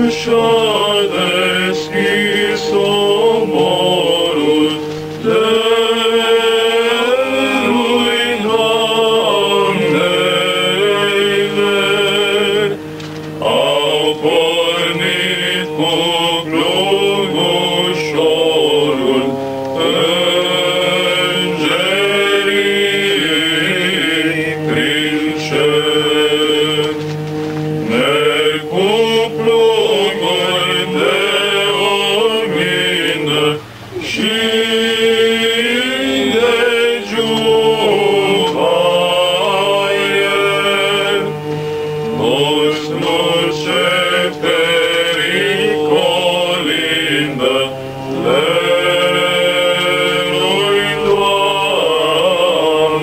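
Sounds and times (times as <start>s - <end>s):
male vocal group singing a cappella: 0.0s - 53.0s.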